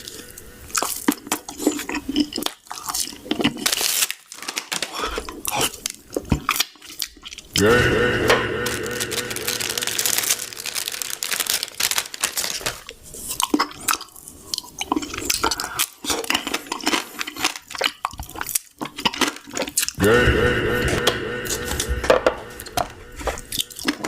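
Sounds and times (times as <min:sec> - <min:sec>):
crunchy chewing of crisp food: 0:00.0 - 0:07.6, 0:08.7 - 0:20.0, 0:22.6 - 0:24.0.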